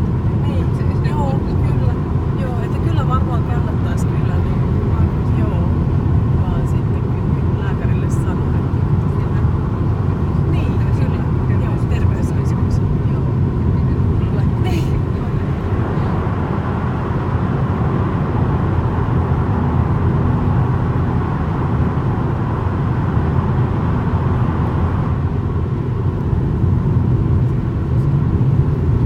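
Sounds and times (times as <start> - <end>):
car road and tyre noise: 0.0 - 29.0.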